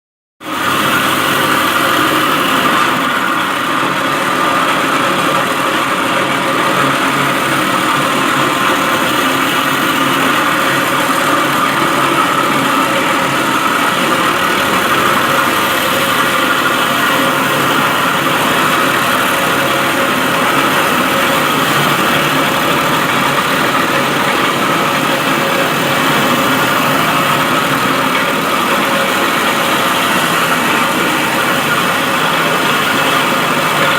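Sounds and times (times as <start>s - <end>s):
concrete floor grinder running: 0.4s - 33.9s.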